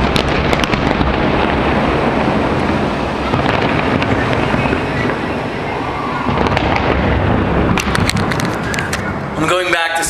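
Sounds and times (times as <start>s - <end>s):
fireworks crackling: 0.0s - 10.0s
fireworks rumbling: 0.0s - 10.0s.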